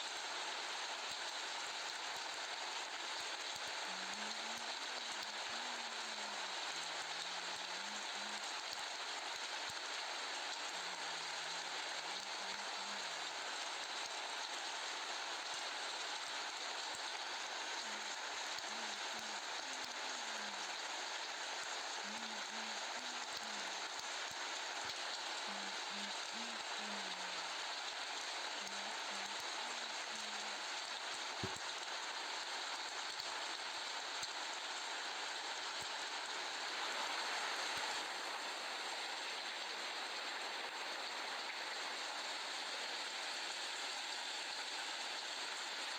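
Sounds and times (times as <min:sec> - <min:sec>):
heavy rain pouring: 0:00.0 - 0:45.9.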